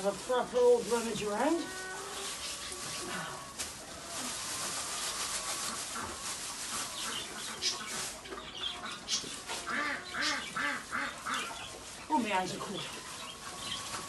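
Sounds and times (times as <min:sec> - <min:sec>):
pig rummaging in straw: 0:00.0 - 0:14.0.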